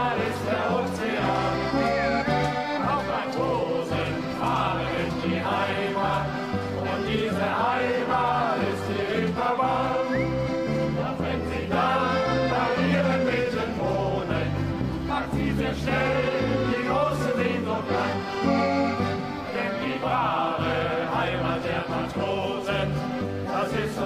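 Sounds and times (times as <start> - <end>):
accordion: 0.0 - 24.0
bass guitar: 0.0 - 24.0
choir singing: 0.0 - 24.0
guitars: 0.0 - 24.0.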